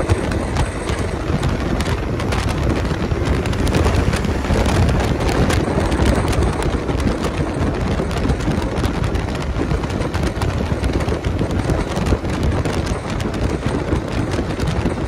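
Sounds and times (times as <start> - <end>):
engine and tyre noise: 0.0 - 15.0
wind buffeting microphone: 0.0 - 15.0.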